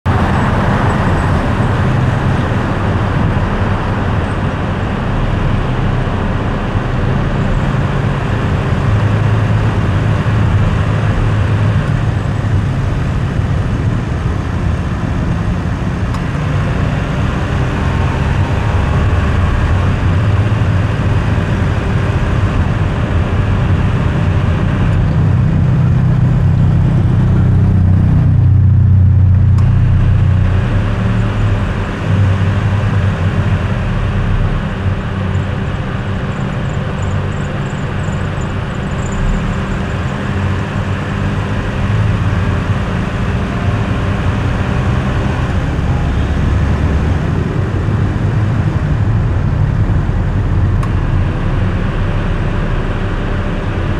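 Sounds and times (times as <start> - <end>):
car driving on road: 0.0 - 53.9.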